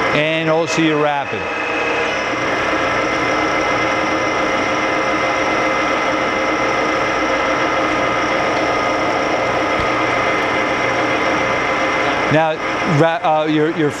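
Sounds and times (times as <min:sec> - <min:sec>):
gears whining: 0:00.0 - 0:14.0
milling machine drone: 0:00.0 - 0:14.0.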